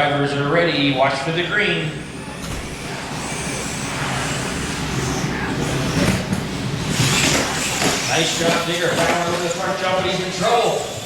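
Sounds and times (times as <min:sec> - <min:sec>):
toy truck motors whining: 0:00.0 - 0:11.0.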